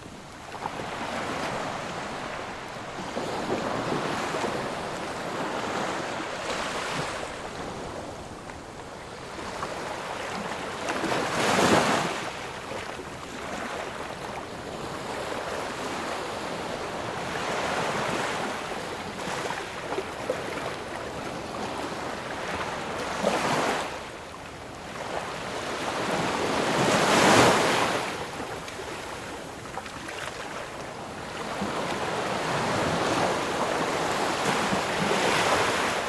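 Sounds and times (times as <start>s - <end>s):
waves breaking on shore: 0.0s - 36.0s.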